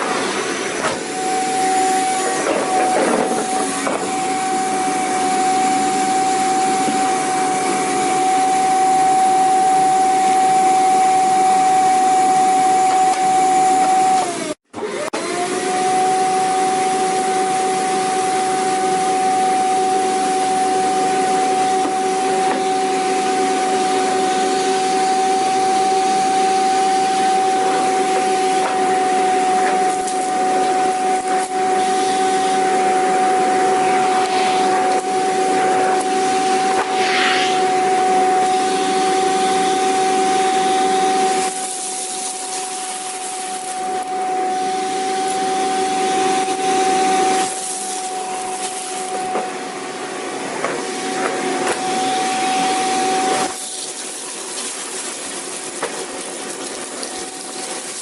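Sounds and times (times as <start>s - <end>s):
vacuum cleaner motor whining: 0.0s - 58.0s.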